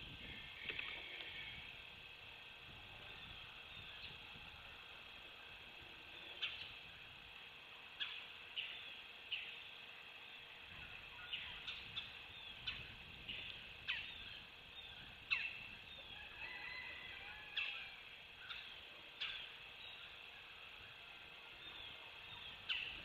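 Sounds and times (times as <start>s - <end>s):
background hiss: 0.0s - 23.0s
faint bird warbling song: 0.0s - 23.0s
birds chirping: 0.2s - 23.0s.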